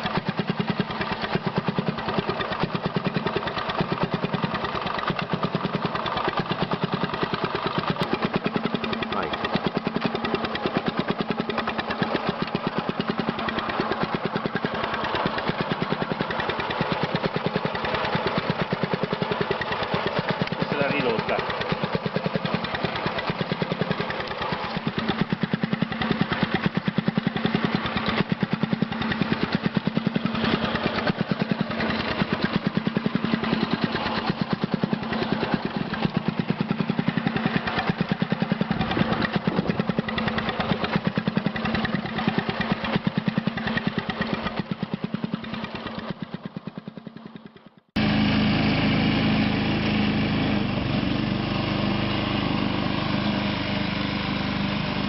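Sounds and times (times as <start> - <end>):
small tractor engine running: 0.0 - 55.0.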